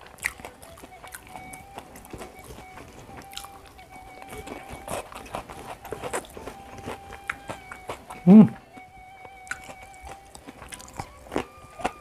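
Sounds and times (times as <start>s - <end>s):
small crackly clicks: 0.0s - 12.0s
wet chewing and smacking: 0.0s - 12.0s.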